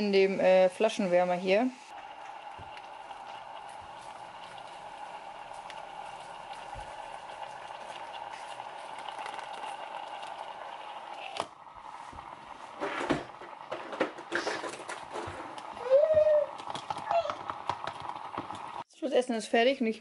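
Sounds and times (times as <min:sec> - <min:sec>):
kitchen hum: 0:00.0 - 0:18.9.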